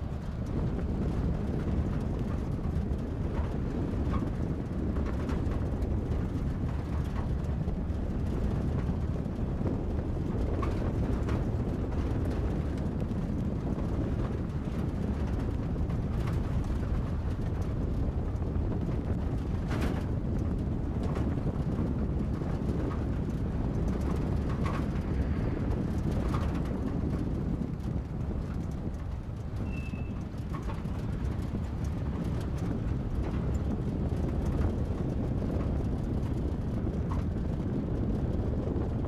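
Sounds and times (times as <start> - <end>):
car engine and tyre rumble: 0.0 - 39.0
light ticks and rattles: 0.0 - 39.0.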